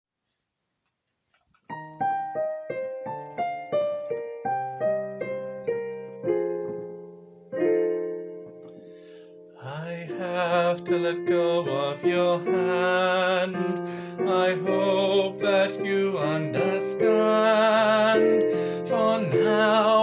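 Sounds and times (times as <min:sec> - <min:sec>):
piano notes and chords: 0:01.7 - 0:20.0.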